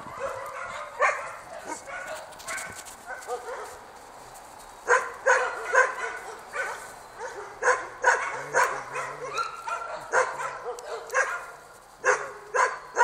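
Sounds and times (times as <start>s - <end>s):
dog barking: 0.0s - 3.8s, 4.9s - 13.0s.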